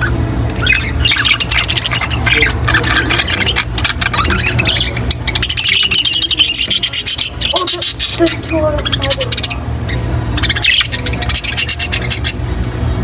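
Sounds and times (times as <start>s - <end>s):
budgerigars chattering: 0.0s - 12.6s.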